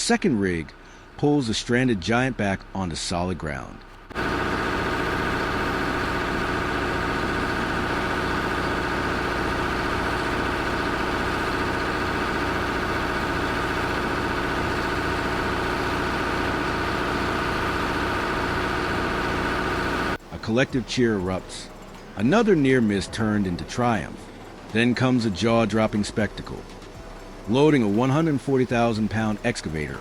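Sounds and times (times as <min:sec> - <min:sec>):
vehicle engine idling: 0:04.0 - 0:30.0.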